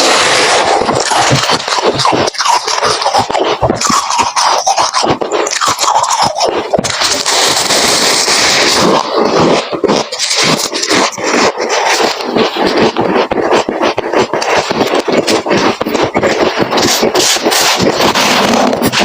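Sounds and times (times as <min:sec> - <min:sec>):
crunching and chewing frost: 0:00.0 - 0:19.0.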